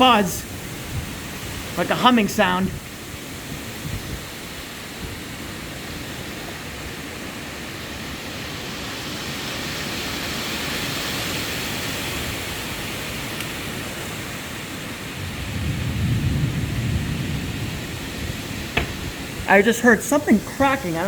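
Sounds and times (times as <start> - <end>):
wind gust rushing through trees: 0.0 - 21.0.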